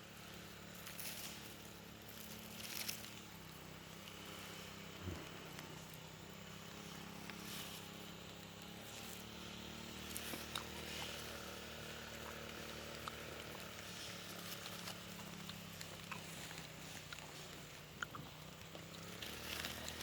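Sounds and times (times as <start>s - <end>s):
leaves and stems rustling: 0.0s - 20.0s
low steady hum: 0.0s - 20.0s
berries snapping as picked: 0.7s - 7.5s, 10.0s - 20.0s.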